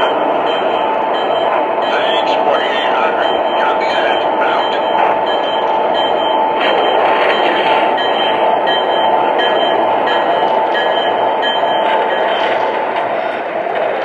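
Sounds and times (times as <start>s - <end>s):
model train running sound: 0.0s - 14.0s
wheels rolling on track: 0.0s - 14.0s.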